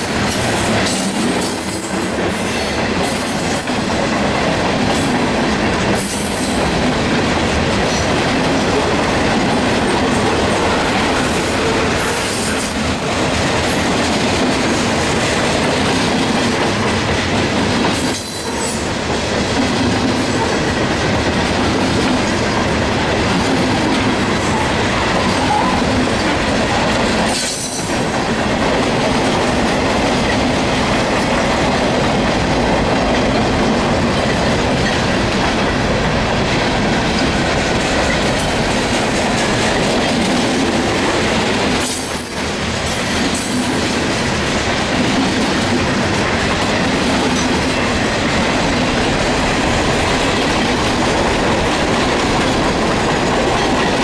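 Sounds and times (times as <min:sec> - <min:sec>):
steel train wheels on rails: 0:00.0 - 0:54.0.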